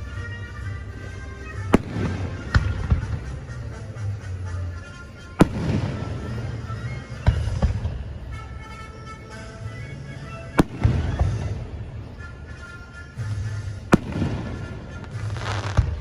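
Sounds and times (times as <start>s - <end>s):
fireworks bangs: 0.0s - 16.0s
music: 0.0s - 16.0s.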